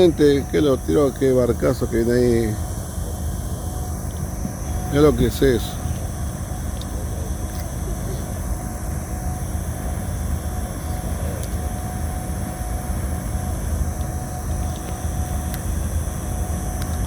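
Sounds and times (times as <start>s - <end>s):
faint steady hum: 0.0s - 17.0s
ship engines rumbling: 0.0s - 17.0s.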